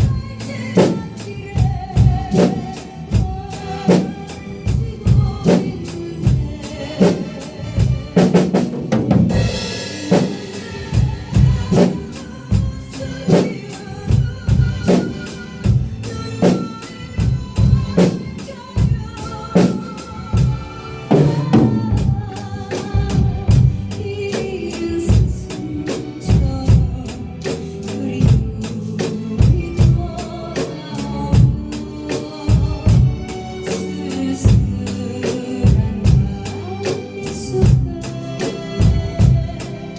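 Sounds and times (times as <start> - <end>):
backing track accompaniment: 0.0 - 39.9
drum kit beat: 0.0 - 39.9.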